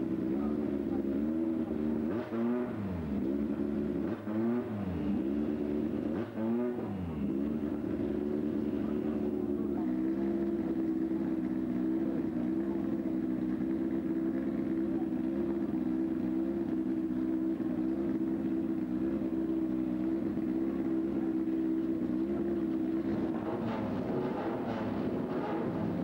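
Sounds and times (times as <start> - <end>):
racing car engine idling: 0.0 - 26.0.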